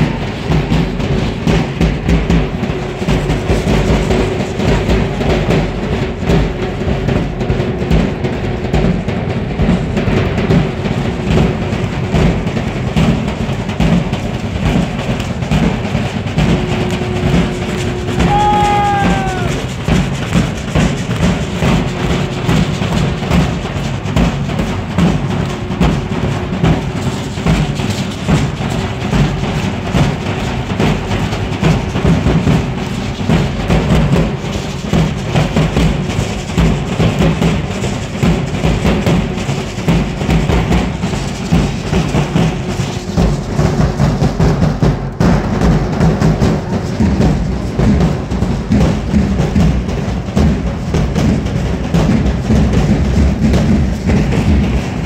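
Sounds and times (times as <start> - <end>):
bass drums beating: 0.0 - 55.0.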